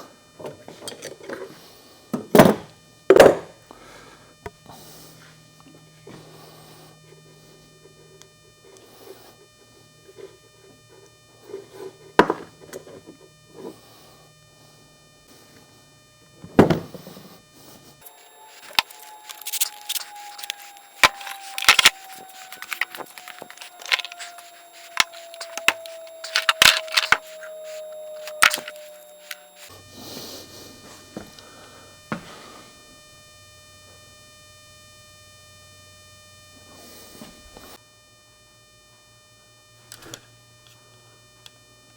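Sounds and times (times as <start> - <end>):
background hum: 0.0 - 41.9.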